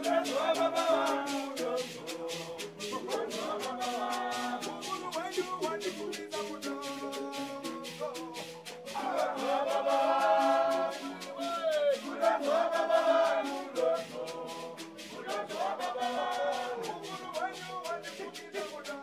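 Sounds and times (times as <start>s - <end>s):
quick percussion beat: 0.0s - 19.0s
song with sung voices: 0.0s - 19.0s.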